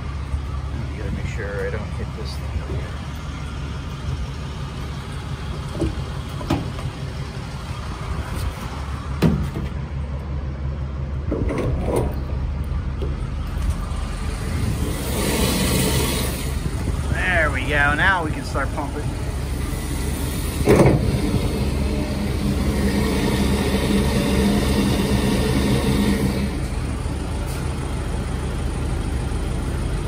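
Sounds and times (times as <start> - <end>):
vehicle engine idling: 0.0 - 30.0.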